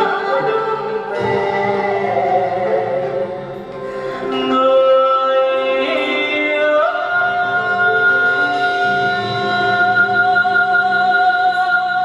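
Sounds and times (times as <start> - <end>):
small instrumental ensemble: 0.0 - 12.0.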